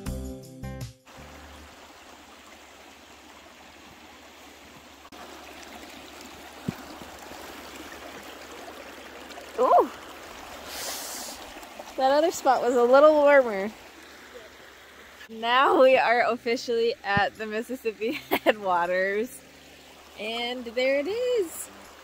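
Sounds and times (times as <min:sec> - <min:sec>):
water babbling over rocks: 0:01.1 - 0:22.0.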